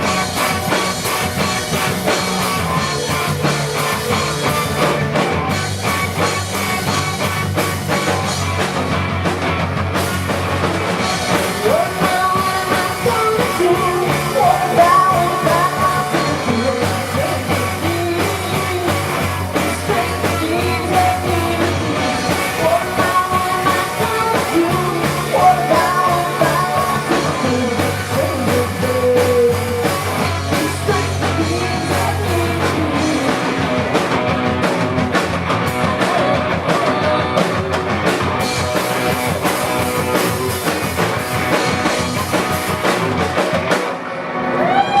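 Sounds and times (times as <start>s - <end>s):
rock band playing live: 0.0s - 45.0s.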